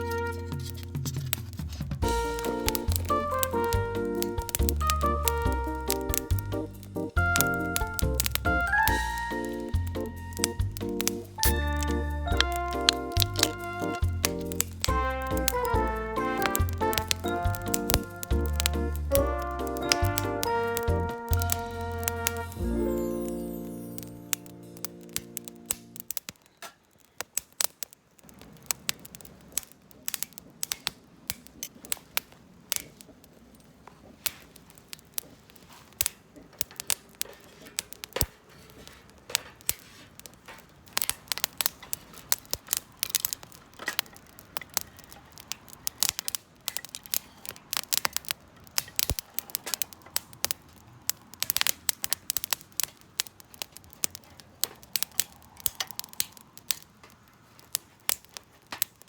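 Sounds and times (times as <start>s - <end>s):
faint low hiss: 0.0s - 59.0s
wood fire crackling: 0.0s - 59.0s.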